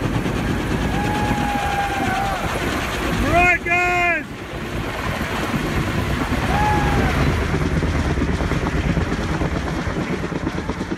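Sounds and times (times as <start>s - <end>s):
helicopter rotors chopping: 0.0s - 10.9s
wind buffeting microphone: 0.0s - 10.9s.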